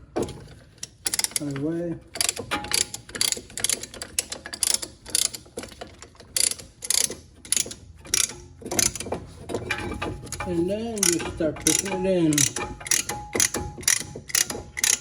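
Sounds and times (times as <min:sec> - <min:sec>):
ratcheting tool metallic clicks: 0:00.8 - 0:01.6, 0:02.2 - 0:09.1, 0:09.8 - 0:15.0.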